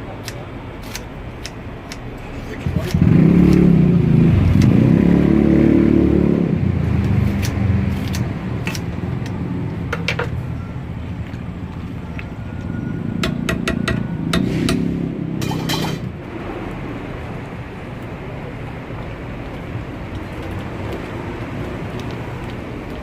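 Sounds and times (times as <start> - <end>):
vehicle engine passing: 2.2 - 9.9, 10.8 - 23.0.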